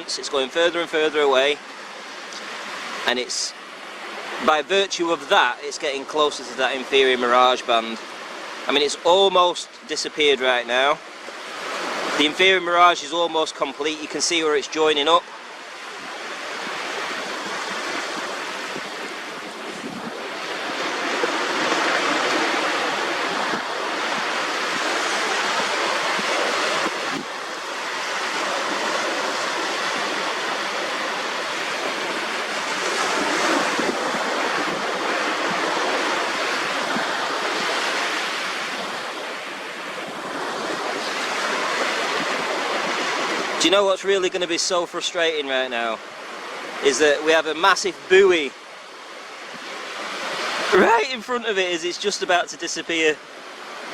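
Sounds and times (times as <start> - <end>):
small waves washing onto shore: 0.0 - 53.9.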